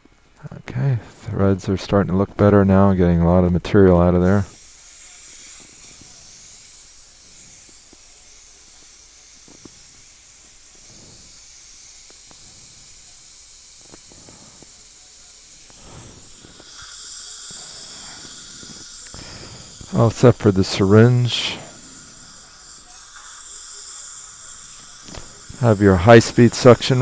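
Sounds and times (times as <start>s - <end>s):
dental suction hissing: 3.7s - 27.0s.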